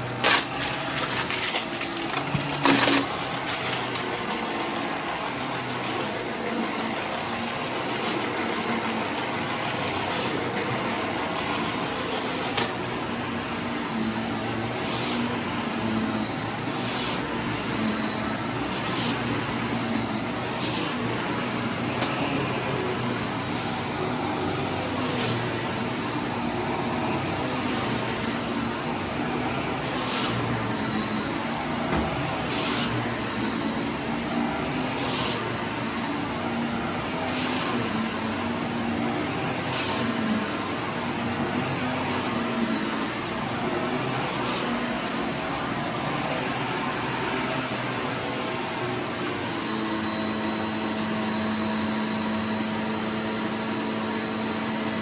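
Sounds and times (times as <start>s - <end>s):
vacuum cleaner humming: 0.0s - 55.0s.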